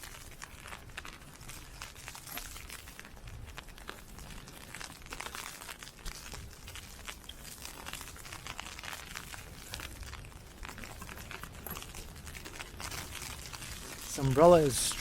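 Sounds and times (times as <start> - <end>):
ice pellets on umbrella: 0.0 - 15.0.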